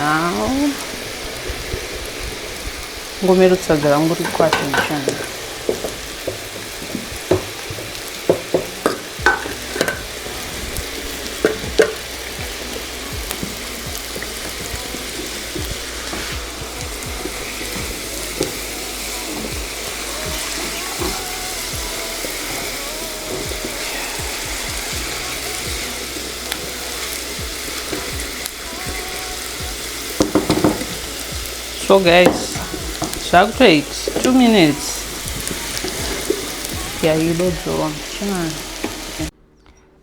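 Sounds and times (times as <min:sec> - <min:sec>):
food sizzling: 0:00.0 - 0:39.4
stirring knocks: 0:03.3 - 0:39.3.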